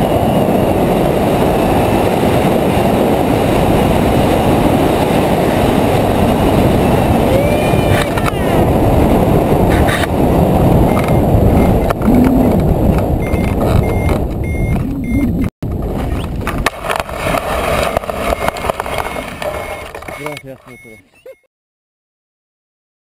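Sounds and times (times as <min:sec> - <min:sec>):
wheels rolling over dry ground: 0:00.0 - 0:21.0
wind buffeting microphone: 0:00.0 - 0:21.0.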